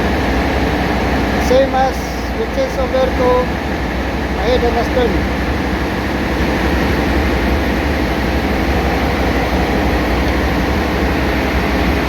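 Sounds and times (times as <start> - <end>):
engine-room machinery drone: 0.0 - 12.0.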